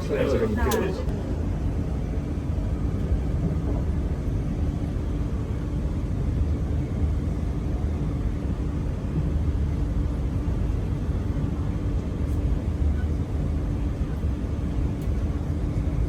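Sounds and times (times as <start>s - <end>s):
constant low hum: 0.0s - 16.0s
train rumble: 0.0s - 16.0s.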